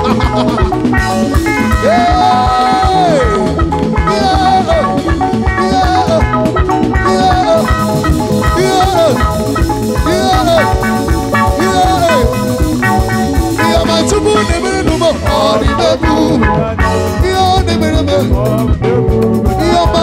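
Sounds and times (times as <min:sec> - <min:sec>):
drum kit dance beat: 0:00.0 - 0:20.0
electric guitars: 0:00.0 - 0:20.0.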